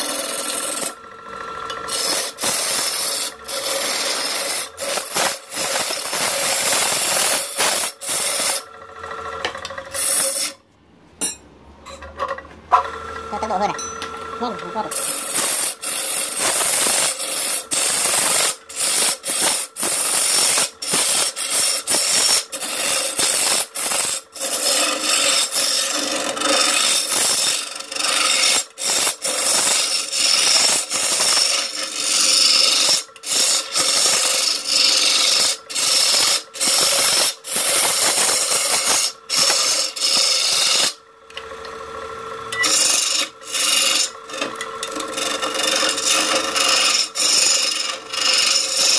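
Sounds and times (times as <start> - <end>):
lathe motor hum: 0.0 - 10.5, 12.0 - 48.9
lathe tool scraping wood: 0.0 - 10.6, 11.9 - 48.9.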